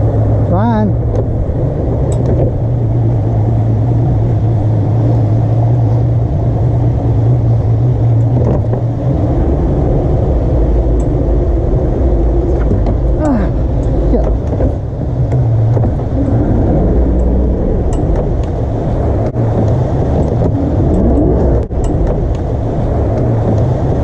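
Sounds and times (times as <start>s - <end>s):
boat motor running: 0.0s - 24.0s
rushing water: 0.0s - 24.0s.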